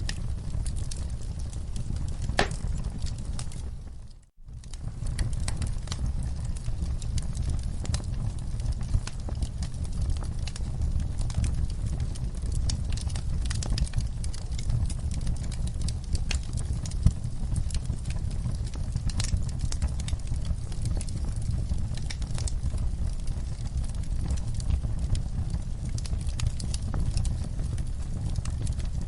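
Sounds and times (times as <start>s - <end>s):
fire crackling with pops: 0.0s - 29.0s
low rumble of flames: 0.0s - 29.0s.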